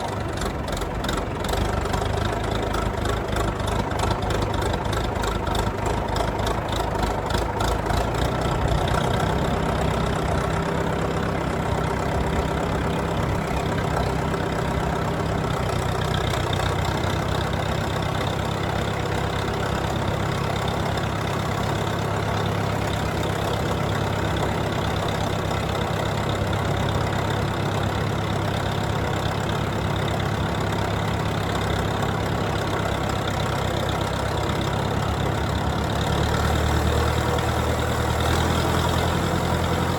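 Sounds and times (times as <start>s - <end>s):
small farm machine engine running: 0.0s - 39.9s.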